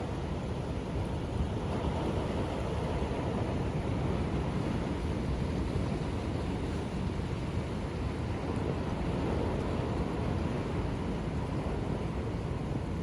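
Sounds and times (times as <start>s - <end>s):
ocean surf rumbling: 0.0s - 13.0s.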